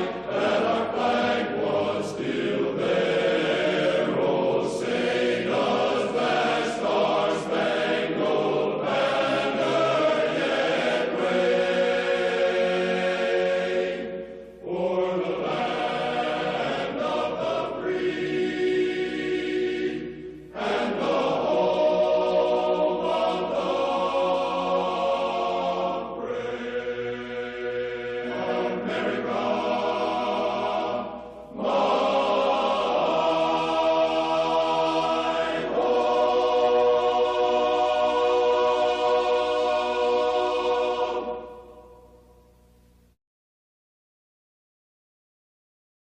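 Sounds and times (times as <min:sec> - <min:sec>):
choir singing held chords: 0:00.0 - 0:42.8.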